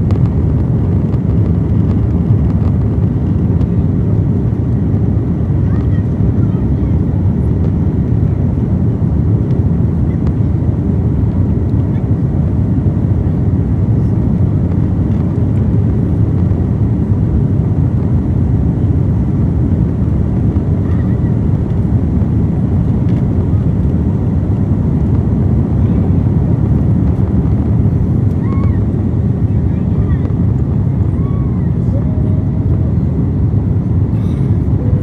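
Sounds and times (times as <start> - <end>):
deep rumble of engines and wheels: 0.0 - 35.0.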